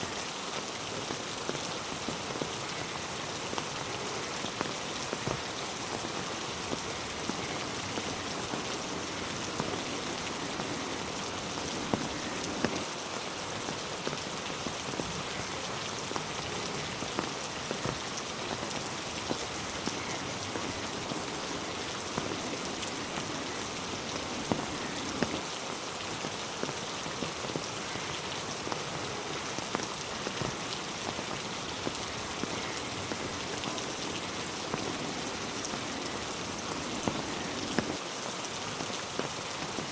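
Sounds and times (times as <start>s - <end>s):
heavy rain falling: 0.0s - 39.9s
raindrops striking close by: 0.0s - 39.9s.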